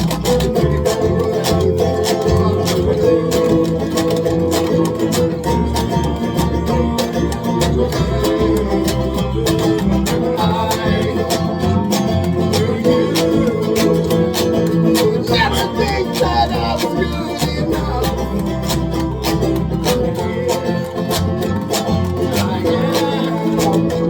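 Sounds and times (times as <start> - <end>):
folk band playing acoustic song: 0.0 - 24.0.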